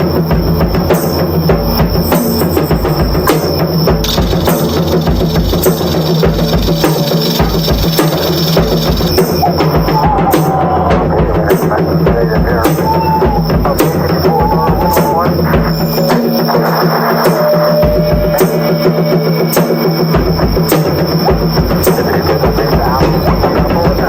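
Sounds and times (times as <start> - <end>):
bass drum: 0.0 - 24.0
drum kit solo: 0.0 - 24.0.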